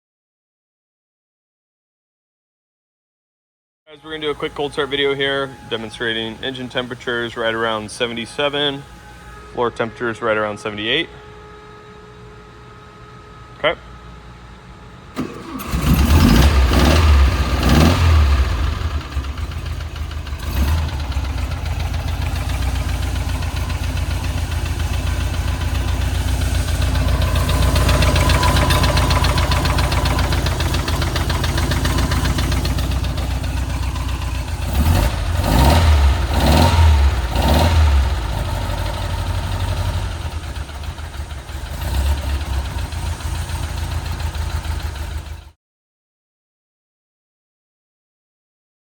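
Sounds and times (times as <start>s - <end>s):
car engine starting and idling: 3.9s - 45.5s
car engine revving: 4.0s - 45.5s.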